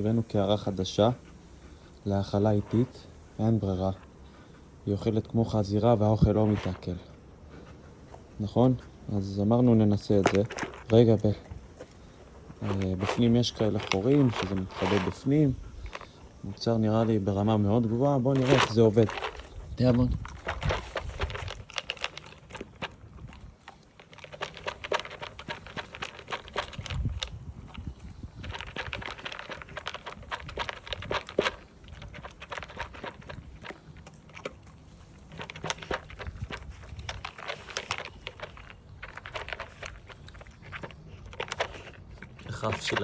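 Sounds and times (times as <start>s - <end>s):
dog crunching kibble: 0.0s - 43.0s.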